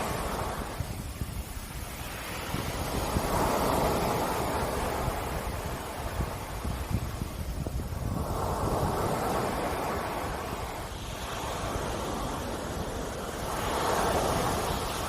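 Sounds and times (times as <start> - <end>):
sea waves breaking on beach: 0.0 - 15.0
wind buffeting microphone: 0.0 - 15.0.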